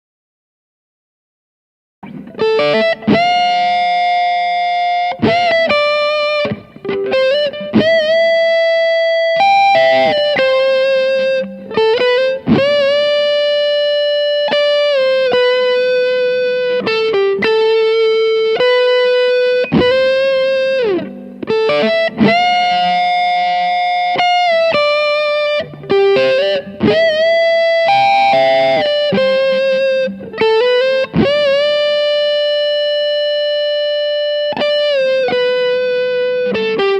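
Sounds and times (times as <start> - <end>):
electric guitar lead melody: 2.0 - 36.9.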